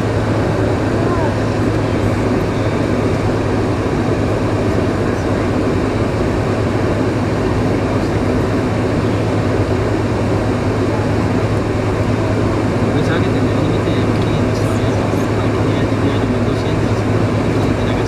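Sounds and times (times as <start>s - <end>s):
airplane cabin engine hum: 0.0s - 18.0s.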